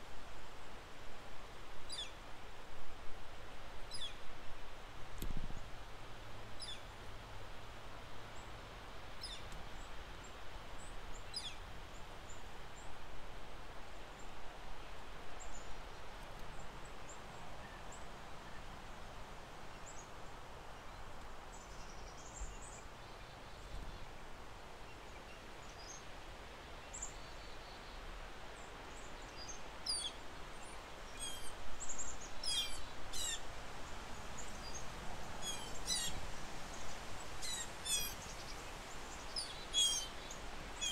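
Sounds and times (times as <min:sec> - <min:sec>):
wind: 0:00.0 - 0:40.9.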